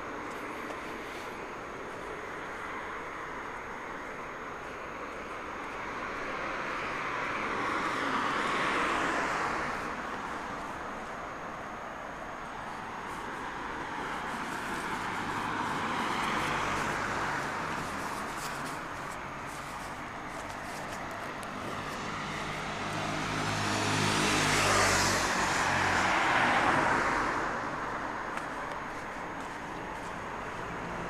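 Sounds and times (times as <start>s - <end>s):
vehicle engine hum passing: 0.0s - 31.0s
vehicle tyre noise: 0.0s - 31.0s.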